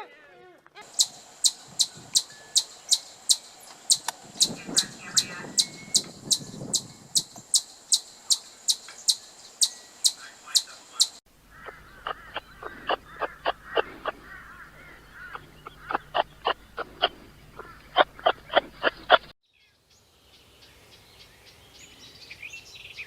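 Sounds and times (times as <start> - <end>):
harsh rapid bird calls: 0.8 - 19.3
bird high chirps: 0.8 - 19.8
soft bird chatter: 0.8 - 23.0.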